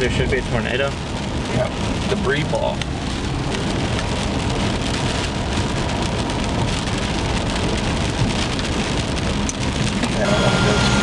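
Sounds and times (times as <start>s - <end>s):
heavy rain on a vehicle: 0.0s - 11.0s
low road rumble: 0.0s - 11.0s.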